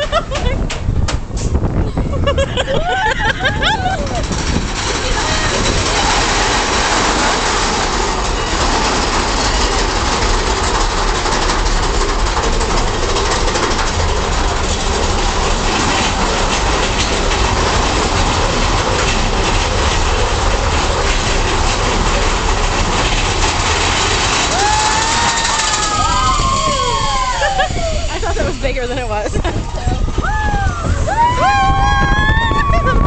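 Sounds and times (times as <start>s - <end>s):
roller coaster cars rattling on track: 0.0s - 33.0s.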